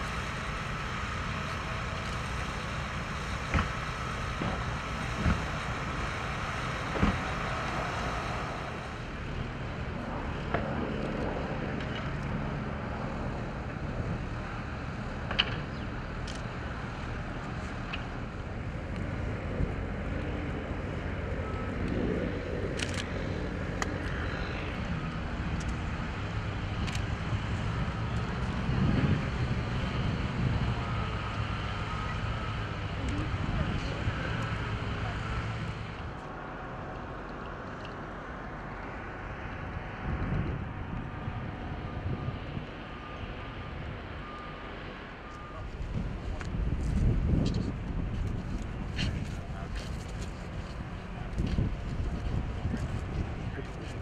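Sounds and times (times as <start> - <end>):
vehicle engines rumbling: 0.0 - 54.0.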